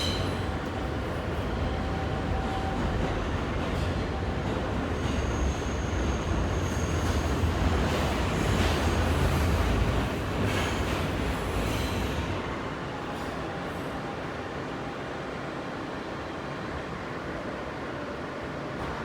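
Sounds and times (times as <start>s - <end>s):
rumble of train wheels on rail: 0.0s - 19.0s.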